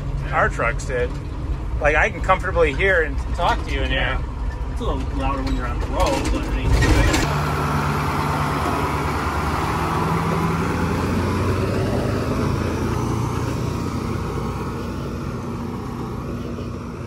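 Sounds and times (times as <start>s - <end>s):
diesel engine drone from inside: 0.0s - 17.0s.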